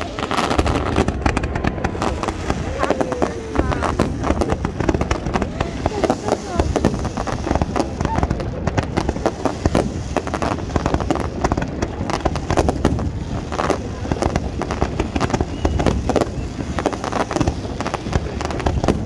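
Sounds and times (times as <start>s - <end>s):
firework rockets launching: 0.0s - 19.0s
firework shells bursting: 0.0s - 19.0s.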